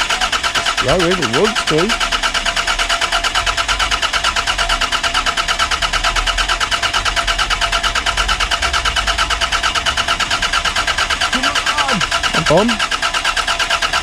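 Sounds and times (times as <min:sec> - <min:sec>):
engine cranking by starter motor: 0:00.0 - 0:14.0.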